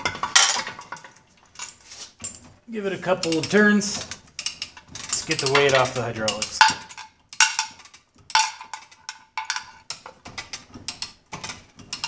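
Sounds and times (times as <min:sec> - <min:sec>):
chain hoist metallic clanks: 0:00.0 - 0:12.0.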